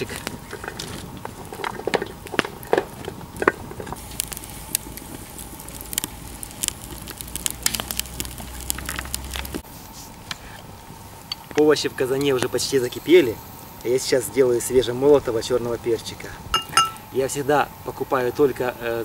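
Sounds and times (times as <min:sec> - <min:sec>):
wood fire crackling and popping: 0:00.0 - 0:18.1.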